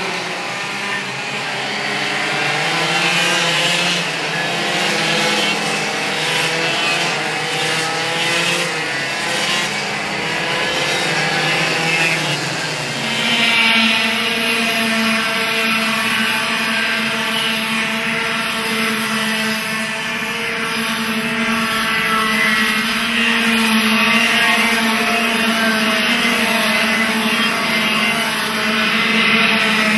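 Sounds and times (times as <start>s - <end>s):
racing kart engines at high revs: 0.0s - 29.9s.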